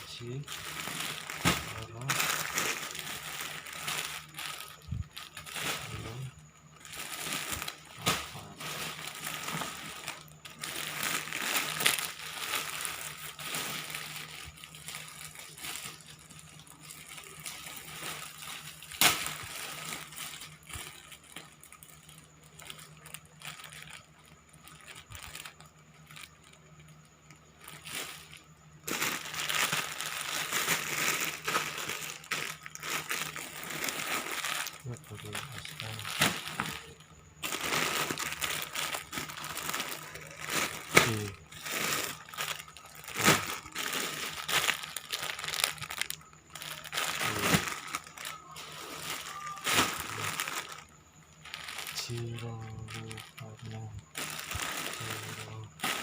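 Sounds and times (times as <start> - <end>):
plastic packaging crinkling: 0.0 - 56.0.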